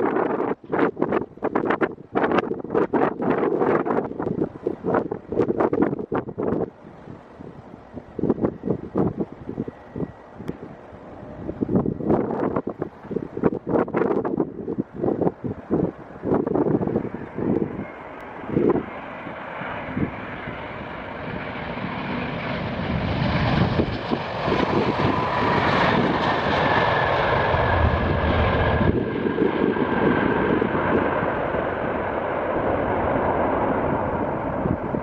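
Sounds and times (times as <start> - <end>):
jet engine rush with whine: 0.0 - 35.0
wind buffeting microphone: 0.0 - 35.0.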